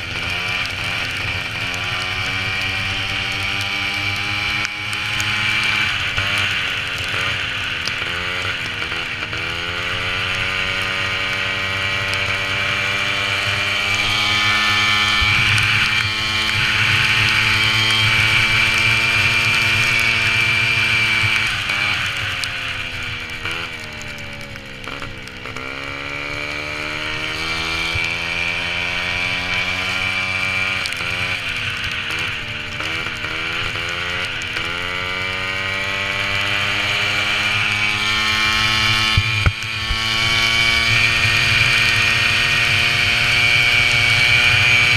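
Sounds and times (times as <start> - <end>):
moped engine running hard: 0.0 - 44.9.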